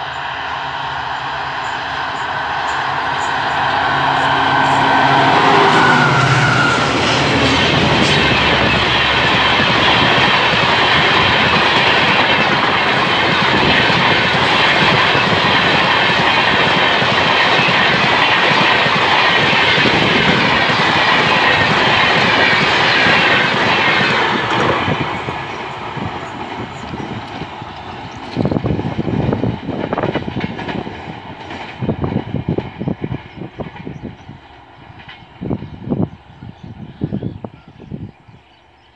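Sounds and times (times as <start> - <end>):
train rushing past: 0.0 - 37.3.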